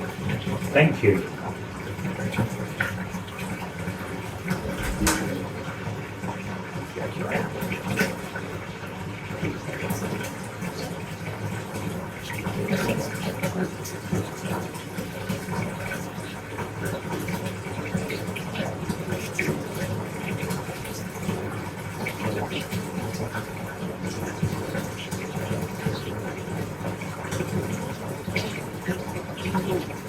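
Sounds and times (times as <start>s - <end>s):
water running into bathtub: 0.0s - 30.0s.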